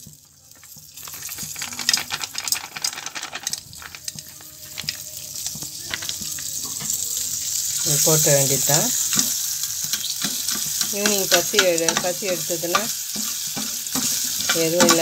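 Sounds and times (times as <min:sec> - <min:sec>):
popcorn kernels sizzling in a pan: 0:00.0 - 0:15.0.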